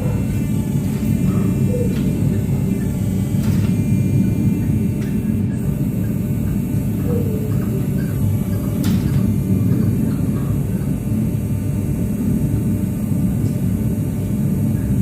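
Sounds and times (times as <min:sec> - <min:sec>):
forge roaring: 0:00.0 - 0:13.2.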